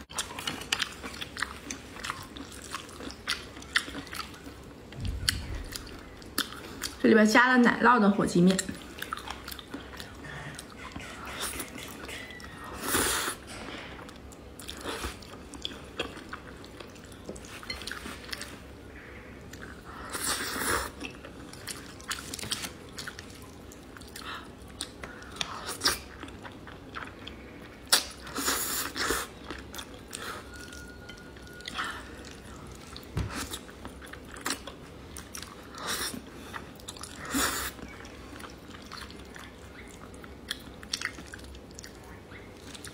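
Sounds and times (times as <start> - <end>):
soft chewing: 0.0 - 7.0, 8.5 - 42.9.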